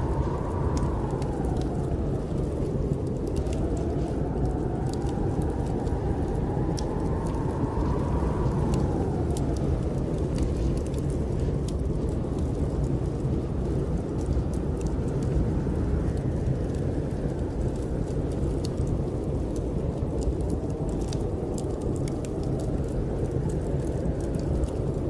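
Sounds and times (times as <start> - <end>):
snowstorm wind howling: 0.0 - 25.0
wood fire crackling: 0.0 - 25.0.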